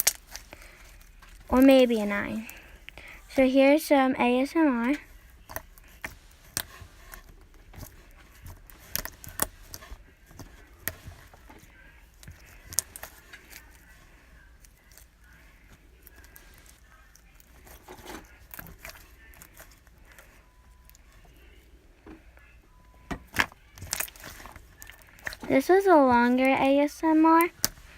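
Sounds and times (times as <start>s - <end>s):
crunchy slime crackling: 0.0s - 3.1s, 4.9s - 21.1s, 23.3s - 27.9s.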